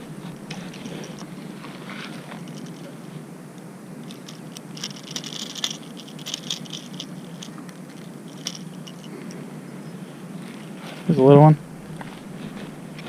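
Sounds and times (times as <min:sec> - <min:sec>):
rustling and crackling: 0:00.0 - 0:09.5, 0:10.3 - 0:13.0
steady low rumble: 0:00.0 - 0:13.0.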